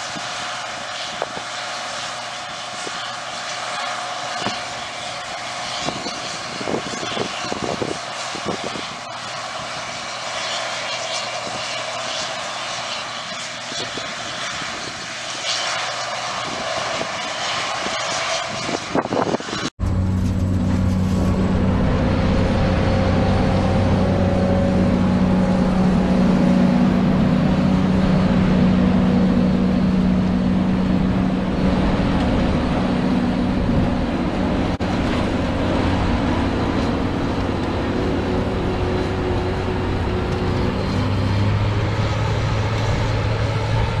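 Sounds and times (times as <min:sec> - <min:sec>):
combine harvester engine drone: 0:00.0 - 0:44.0.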